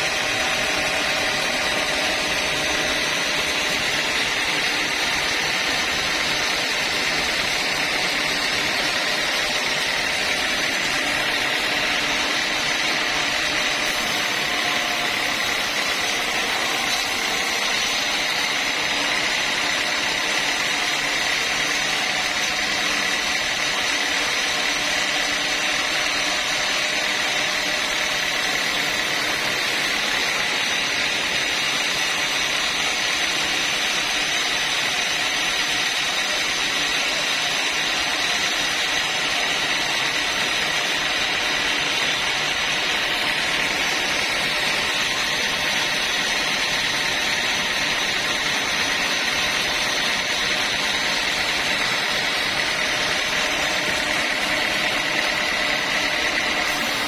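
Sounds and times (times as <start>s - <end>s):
sawmill saw cutting timber: 0.0s - 57.0s.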